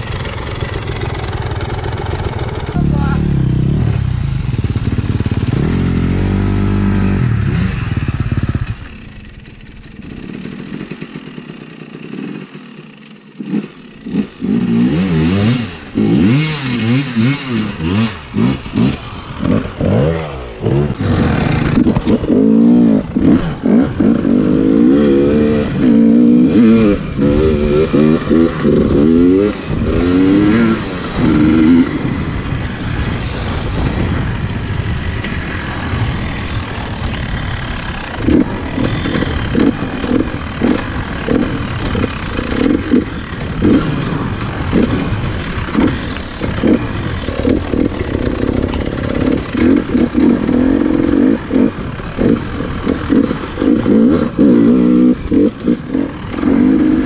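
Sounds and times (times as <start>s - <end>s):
trail bike engine revving: 0.0s - 34.0s, 35.1s - 57.0s.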